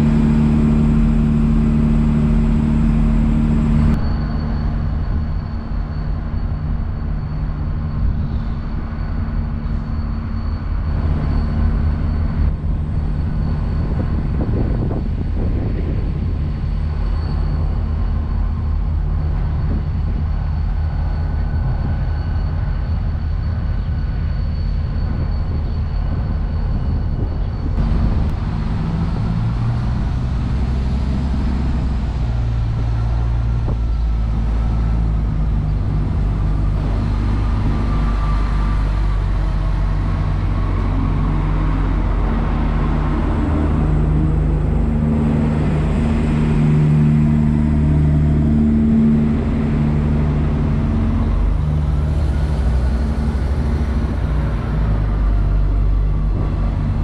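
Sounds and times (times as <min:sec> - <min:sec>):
train engine idling drone: 0:00.0 - 0:57.0.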